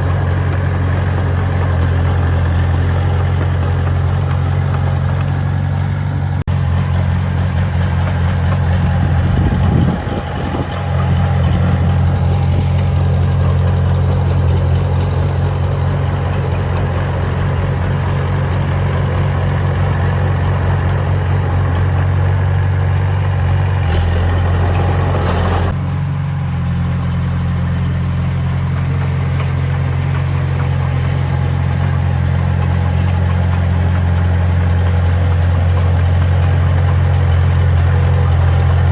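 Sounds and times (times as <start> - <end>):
heavy machinery diesel engine running: 0.0 - 38.9.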